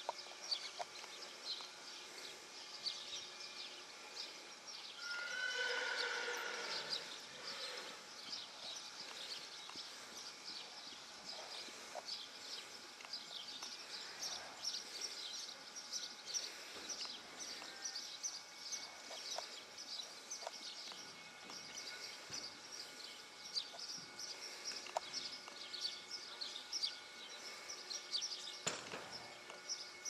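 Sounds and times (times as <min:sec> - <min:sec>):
faint outdoor background noise: 0:00.0 - 0:30.0
small birds chirping: 0:00.0 - 0:30.0.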